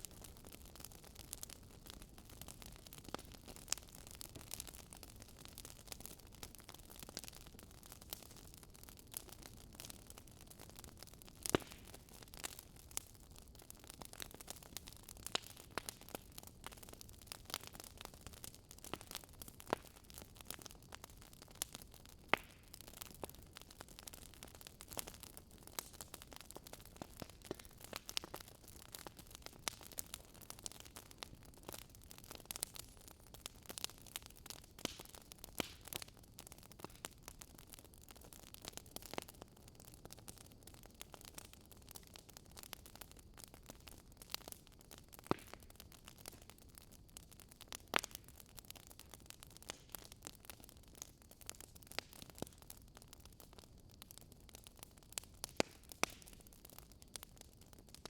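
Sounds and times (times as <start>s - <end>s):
fireplace crackling: 0.0s - 39.5s, 40.3s - 49.0s.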